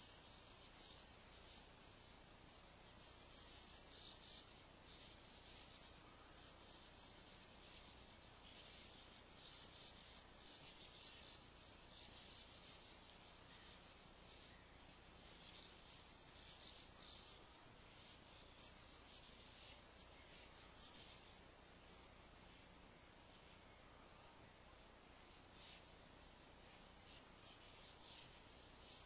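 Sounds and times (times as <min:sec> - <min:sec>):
birds twittering: 0:00.0 - 0:29.0.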